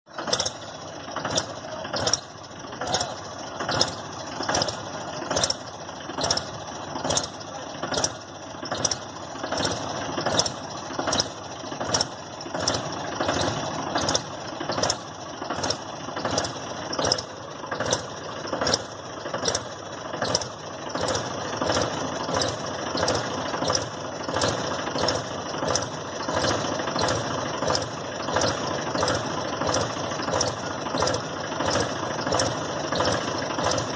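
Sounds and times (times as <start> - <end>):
regular sharp engine knock: 0.1 - 33.9
tractor engine running: 0.1 - 33.9.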